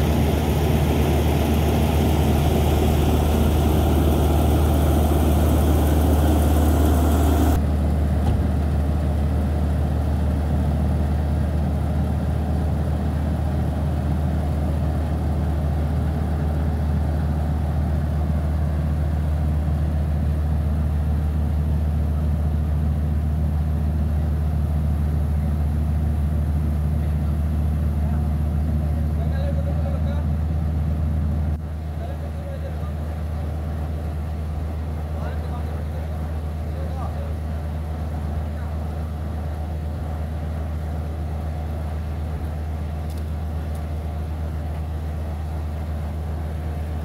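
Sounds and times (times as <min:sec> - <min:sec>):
excavator diesel engine idling: 0:00.0 - 0:08.1, 0:08.8 - 0:47.0.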